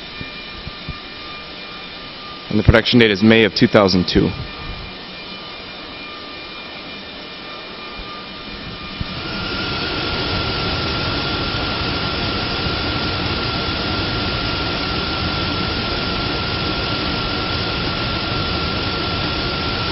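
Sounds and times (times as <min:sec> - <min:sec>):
steady high whine: 0:00.0 - 0:19.9.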